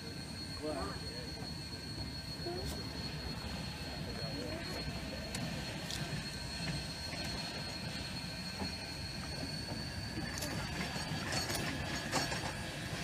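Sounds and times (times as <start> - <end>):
steam locomotive wheels rumbling on rail: 1.4 - 13.0.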